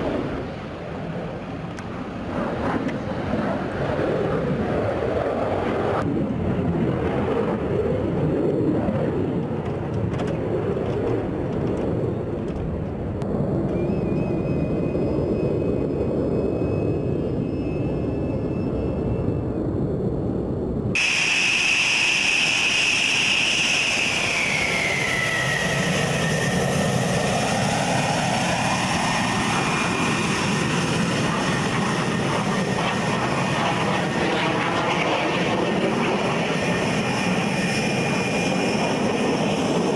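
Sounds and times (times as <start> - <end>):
jet engine high whine: 0.0 - 39.9
jet engine rumble: 0.0 - 39.9
jet roar: 0.0 - 39.9.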